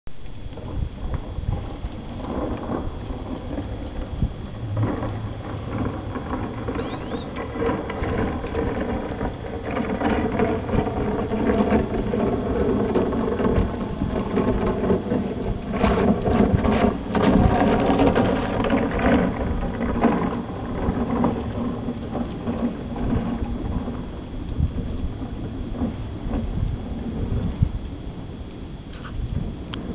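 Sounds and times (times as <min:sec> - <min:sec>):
ice boat rumbling over ice: 0:00.1 - 0:29.9.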